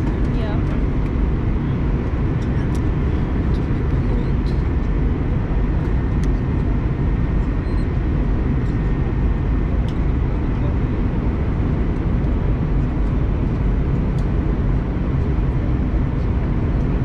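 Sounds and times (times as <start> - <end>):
airliner cabin rumble: 0.0 - 17.0
faint steady hum: 0.0 - 17.0.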